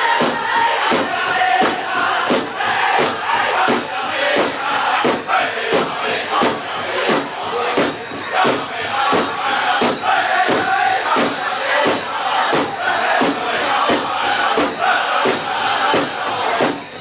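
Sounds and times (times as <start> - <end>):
drum group singing a chant: 0.0 - 17.0
steady beat on large drum: 0.0 - 17.0.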